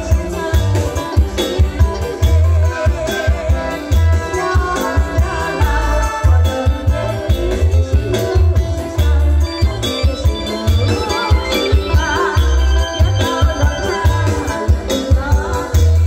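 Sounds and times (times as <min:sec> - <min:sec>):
electric guitar: 0:00.0 - 0:16.0
keyboard: 0:00.0 - 0:16.0
woman singing: 0:00.0 - 0:16.0.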